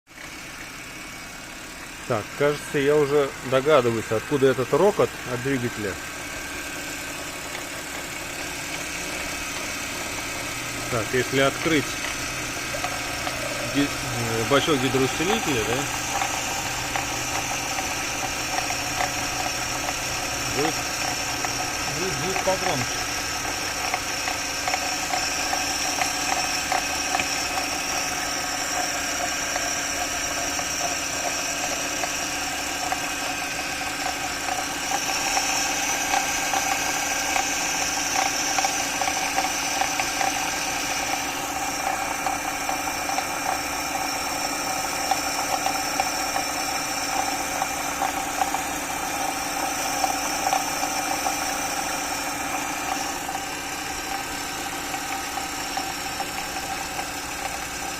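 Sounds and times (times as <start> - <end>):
car engine running: 0.1 - 57.9
power steering pump crunching whine: 0.1 - 57.9.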